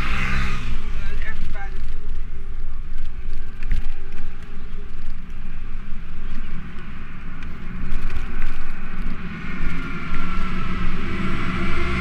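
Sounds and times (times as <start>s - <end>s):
street traffic: 0.0s - 12.0s
wind rumble on microphone: 0.0s - 12.0s.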